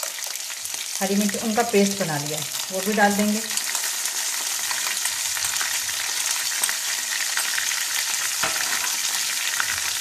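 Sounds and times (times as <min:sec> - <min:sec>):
hot oil sizzling with crackles: 0:00.0 - 0:10.0.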